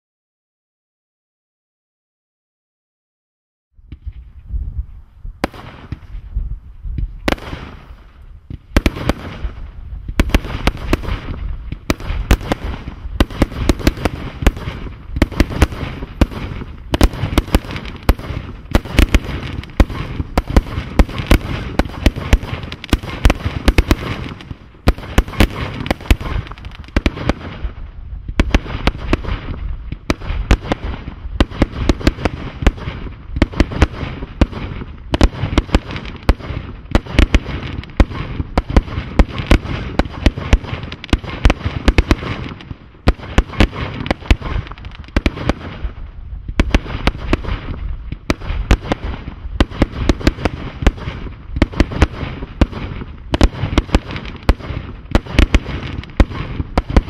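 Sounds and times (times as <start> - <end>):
fireworks popping and banging: 5.4 - 57.0.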